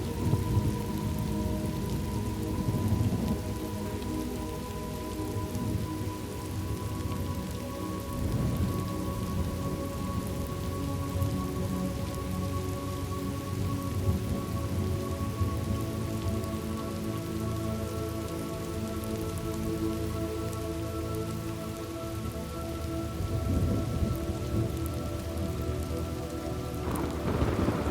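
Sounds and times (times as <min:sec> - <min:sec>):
rain falling: 0:00.0 - 0:27.9.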